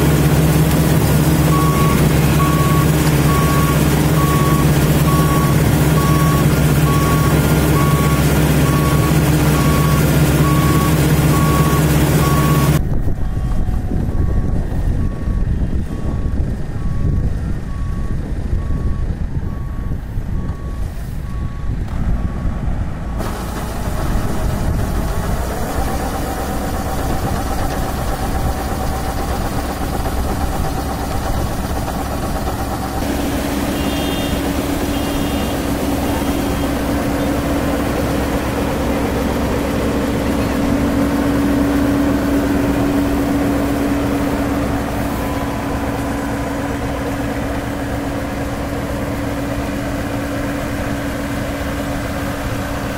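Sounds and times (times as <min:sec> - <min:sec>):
combine harvester engine drone: 0:00.0 - 0:52.9.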